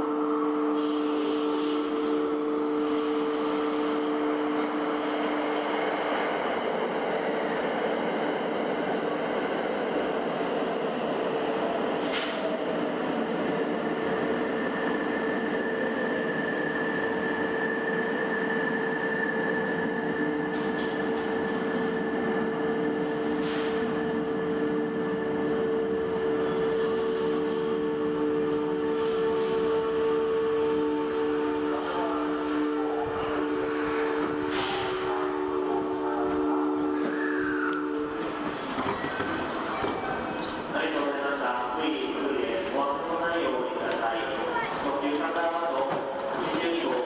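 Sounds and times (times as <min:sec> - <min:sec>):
electric train rumbling past: 0:00.0 - 0:47.0
train whine: 0:00.0 - 0:47.0.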